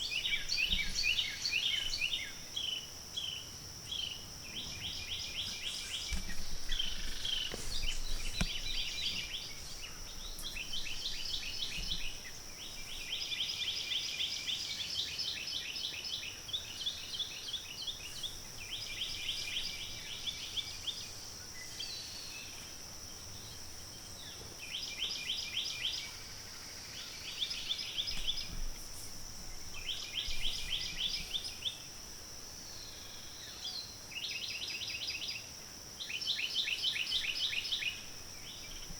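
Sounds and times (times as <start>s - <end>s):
songbirds trilling: 0.0s - 31.9s
high-pitched insect drone: 0.0s - 38.9s.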